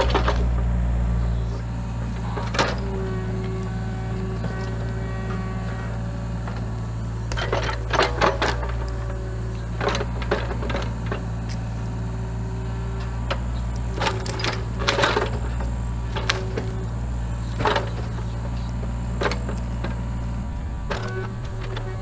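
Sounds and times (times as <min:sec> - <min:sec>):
excavator engine running: 0:00.0 - 0:22.0
hydraulic whine: 0:00.0 - 0:22.0.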